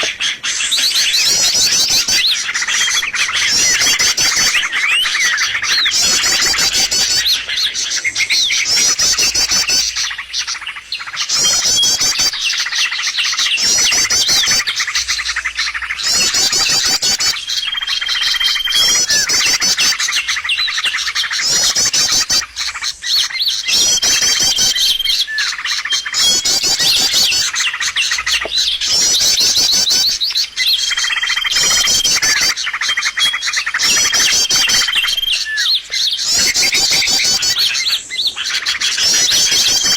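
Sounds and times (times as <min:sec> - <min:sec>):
small birds chirping: 0:00.0 - 0:39.9
steady bird whistles: 0:00.0 - 0:39.9.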